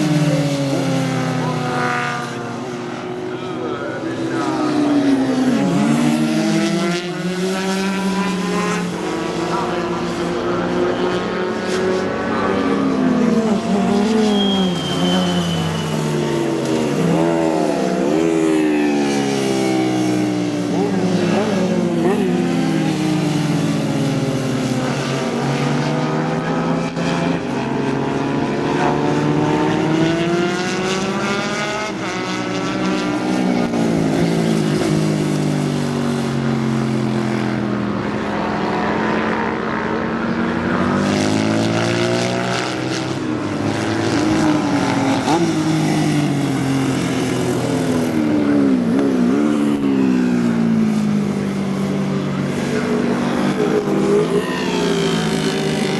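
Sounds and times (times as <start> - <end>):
racing motorcycle engines: 0.0 - 55.9.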